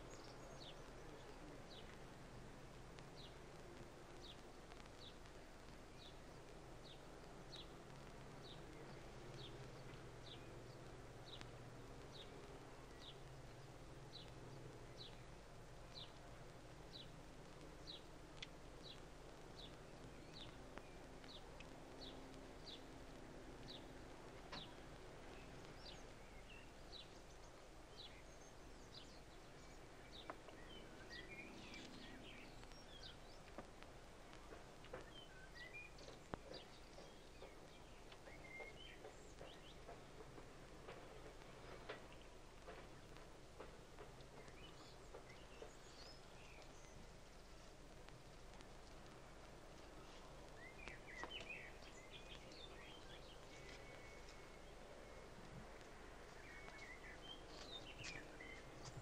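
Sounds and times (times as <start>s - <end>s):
bird chirping: 0.0s - 2.0s, 3.0s - 18.1s, 18.8s - 59.0s
background hiss: 0.0s - 59.0s.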